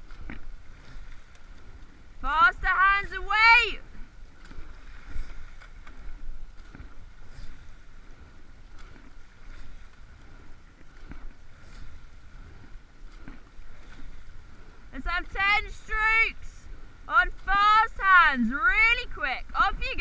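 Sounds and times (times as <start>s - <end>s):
water rumbling along hull: 0.0s - 20.0s.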